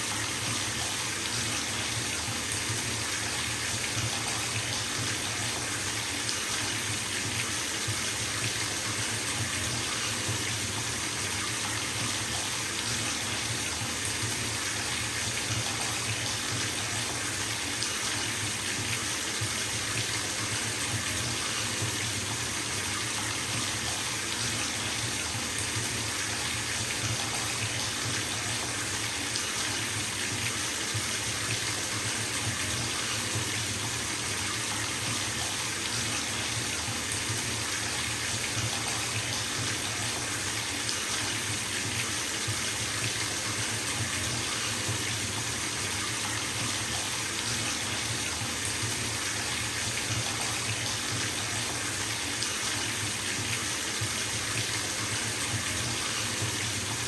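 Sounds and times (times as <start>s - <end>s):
water running into bathtub: 0.0s - 57.0s.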